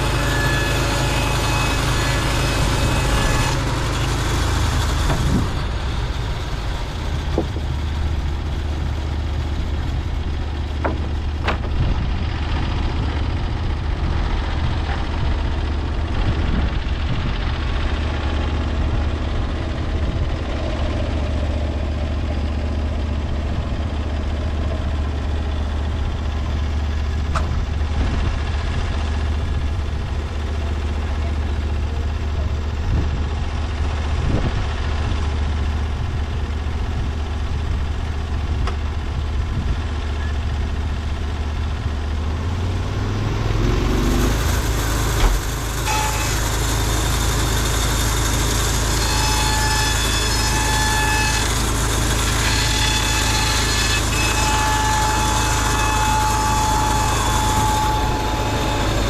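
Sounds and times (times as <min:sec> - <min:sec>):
gasoline engine running: 0:00.0 - 0:59.0.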